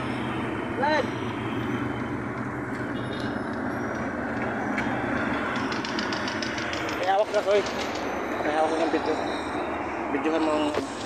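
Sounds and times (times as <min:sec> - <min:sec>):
road traffic noise: 0:00.0 - 0:11.0
vehicle engine rumble: 0:00.0 - 0:11.0.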